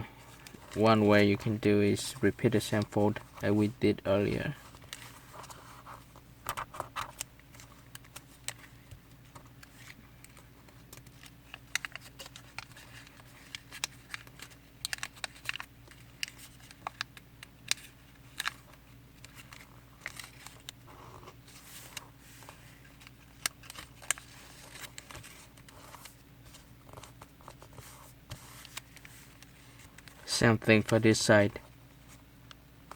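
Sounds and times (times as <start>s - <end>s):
paper folding and crinkling: 0.2s - 32.2s.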